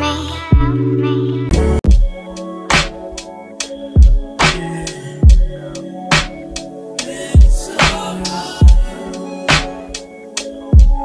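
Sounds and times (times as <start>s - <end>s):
hip hop music with slow beat: 0.0s - 11.0s.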